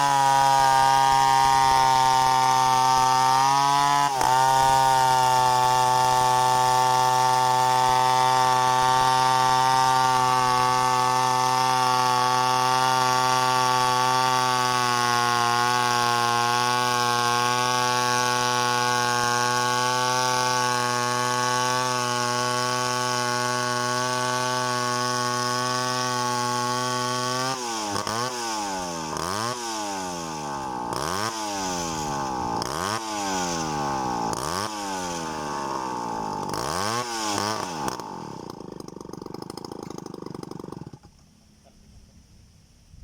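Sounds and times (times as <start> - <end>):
chainsaw engine revving: 0.0 - 41.3.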